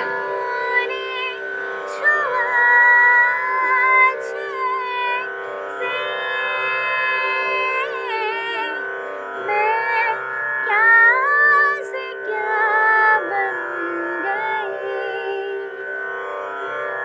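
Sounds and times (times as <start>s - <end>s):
slow ornamented melody: 0.0s - 17.0s.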